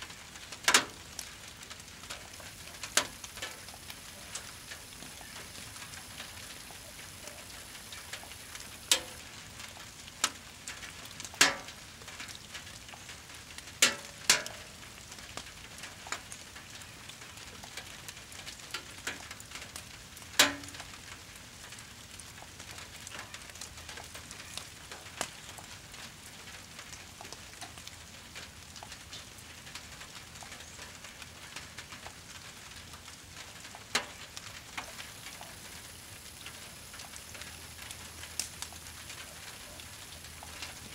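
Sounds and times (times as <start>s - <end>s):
burning wood popping: 0.0s - 40.9s
fire crackling: 0.0s - 40.9s
rain hissing: 0.0s - 40.9s.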